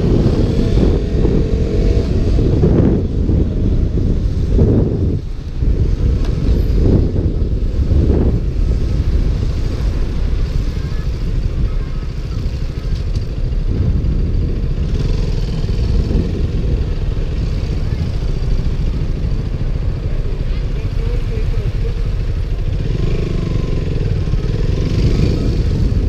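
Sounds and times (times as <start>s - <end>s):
motorcycle engine: 0.0s - 26.0s
wind noise on microphone: 0.0s - 26.0s.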